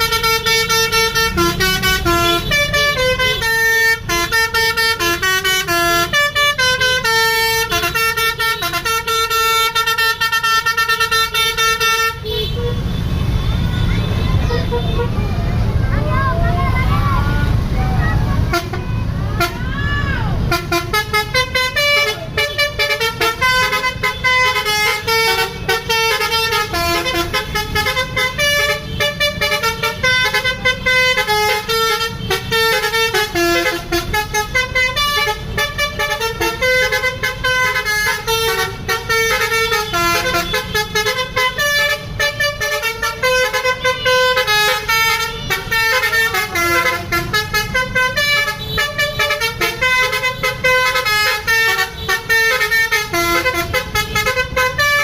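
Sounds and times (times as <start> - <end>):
musical bus horn melody: 0.0 - 15.2, 18.4 - 19.6, 20.4 - 55.0.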